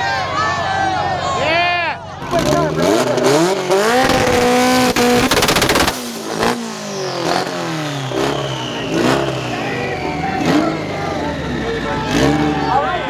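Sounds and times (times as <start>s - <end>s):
car engine revving on limiter: 2.2s - 13.0s
rapid exhaust pops: 2.2s - 13.0s.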